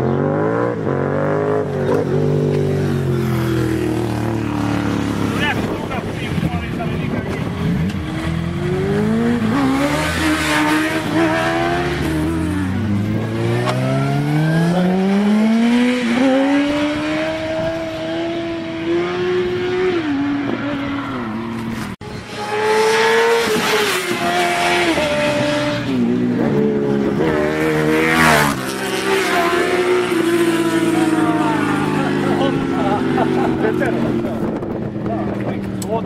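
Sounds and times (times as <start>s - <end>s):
motorcycle engines revving: 0.0s - 36.0s
motorcycle passing at speed: 0.0s - 36.0s.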